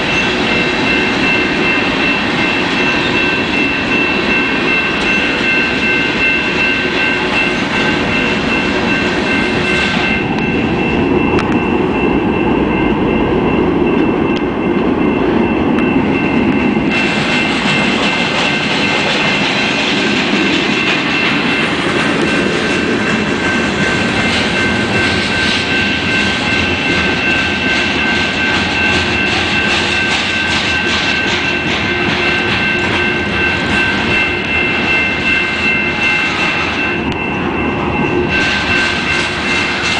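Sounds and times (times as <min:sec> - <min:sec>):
freight train wheels rumbling: 0:00.0 - 0:39.9
high ringing tones: 0:00.0 - 0:39.9.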